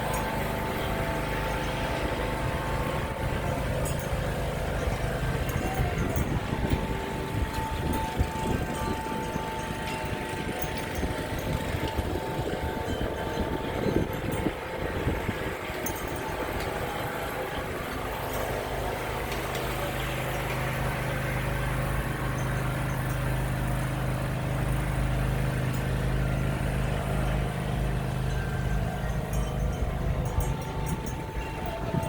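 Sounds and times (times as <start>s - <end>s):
lawnmower engine running: 0.0s - 32.0s.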